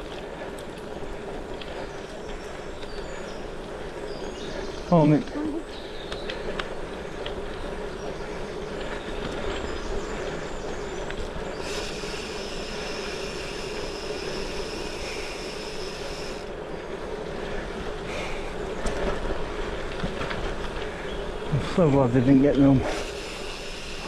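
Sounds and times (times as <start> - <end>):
bike tyres rolling: 0.0 - 24.0.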